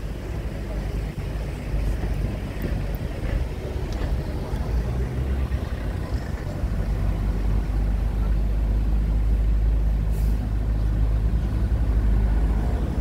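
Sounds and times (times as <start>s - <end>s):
low engine and road rumble: 0.0s - 13.0s.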